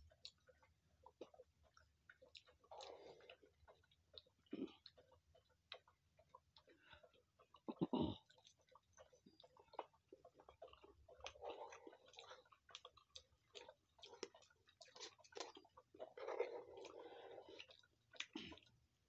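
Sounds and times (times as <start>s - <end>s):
person chewing noodles: 0.0s - 19.0s.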